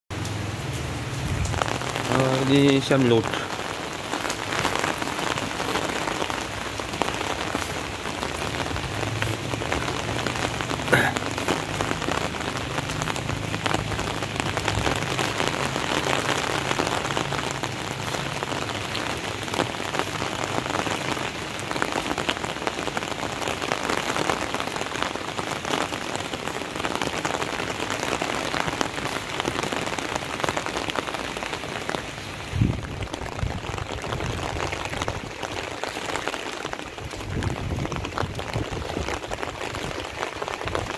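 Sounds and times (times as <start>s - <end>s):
heavy rain on concrete and water: 0.1s - 40.9s.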